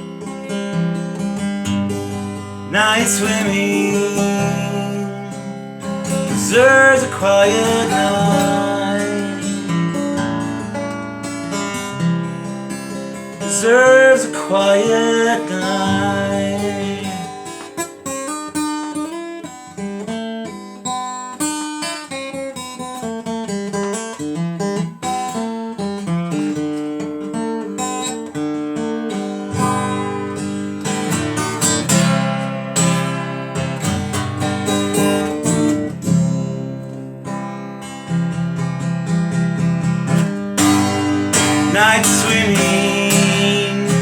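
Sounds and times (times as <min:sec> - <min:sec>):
acoustic guitar picked and strummed: 0:00.0 - 0:44.0.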